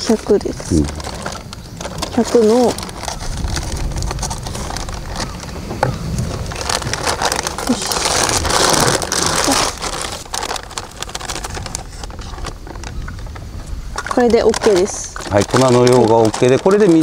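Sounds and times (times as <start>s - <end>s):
bag rustling and crinkling: 0.0s - 17.0s.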